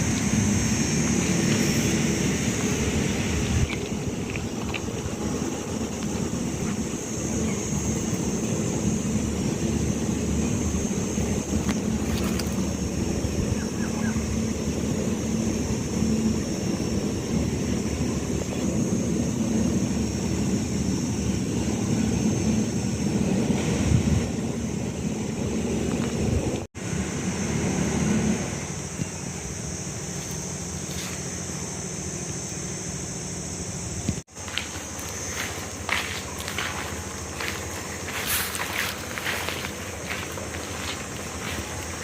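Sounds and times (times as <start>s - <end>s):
engine running low rumble: 0.0s - 42.0s
steady high hiss: 0.0s - 42.0s.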